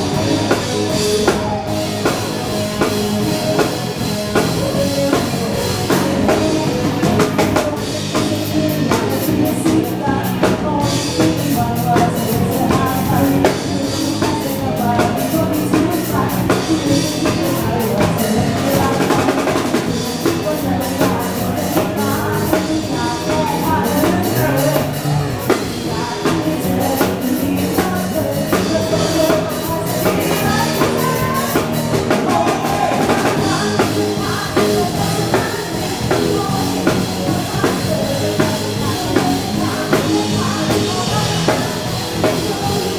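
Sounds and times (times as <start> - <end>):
bass: 0.0 - 42.9
drum kit beat: 0.0 - 42.9
live band dance music: 0.0 - 42.9
person singing: 0.0 - 42.9.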